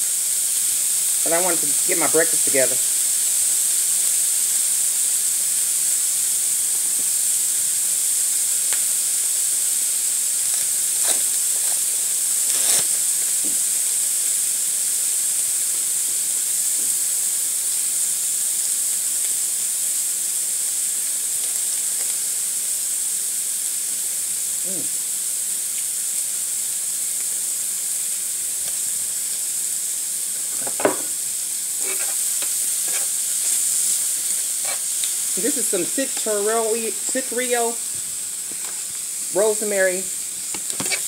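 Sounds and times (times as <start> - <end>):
food sizzling on a griddle: 0.0 - 41.0.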